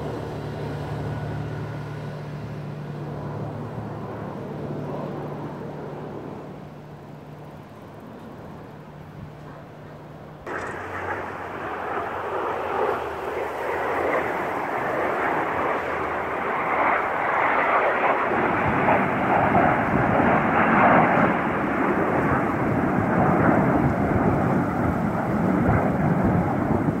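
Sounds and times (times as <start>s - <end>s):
jet engines roaring overhead: 0.0s - 27.0s.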